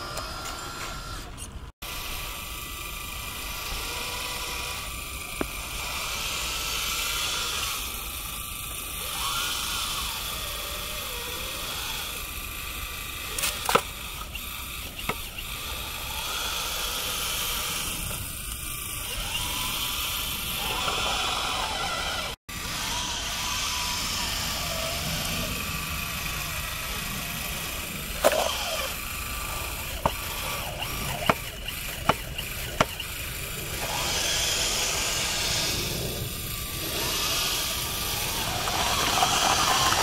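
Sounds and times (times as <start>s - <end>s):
hydraulic pump and motors whining: 0.0s - 40.0s.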